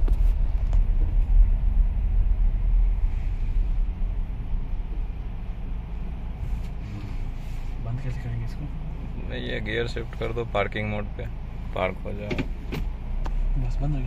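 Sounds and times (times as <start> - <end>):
road and tyre rumble in car: 0.0 - 14.0.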